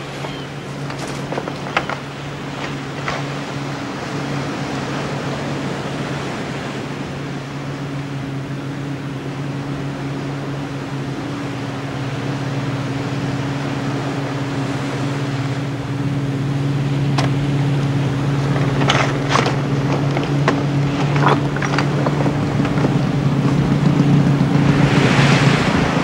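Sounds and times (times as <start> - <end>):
motorboat engines droning: 0.0 - 26.0.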